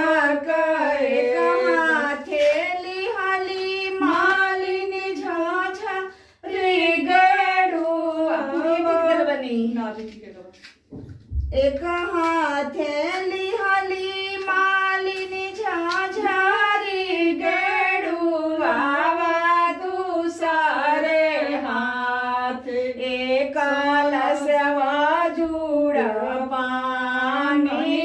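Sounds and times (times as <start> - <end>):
woman singing unaccompanied: 0.0 - 10.2, 11.5 - 28.0.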